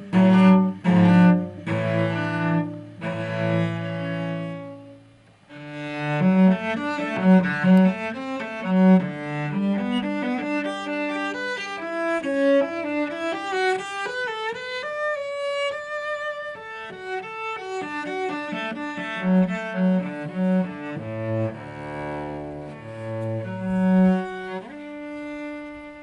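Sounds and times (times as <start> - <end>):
bowed cello melody: 0.0 - 26.0.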